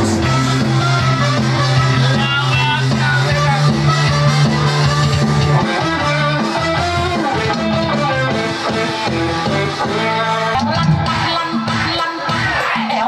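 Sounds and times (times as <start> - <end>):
upbeat guitar music with beat: 0.0 - 13.0.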